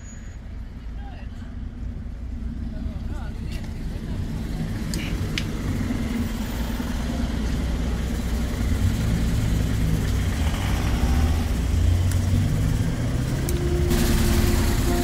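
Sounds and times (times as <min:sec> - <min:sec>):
vehicle engine running: 0:01.5 - 0:15.0.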